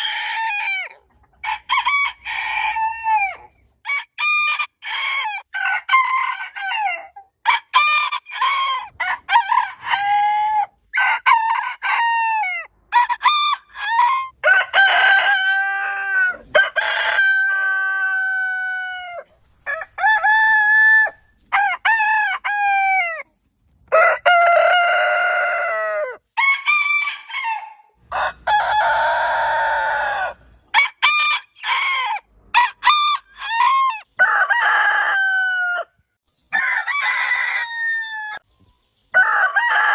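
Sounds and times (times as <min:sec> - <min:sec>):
roosters crowing: 0:00.0 - 0:38.5, 0:39.1 - 0:39.9.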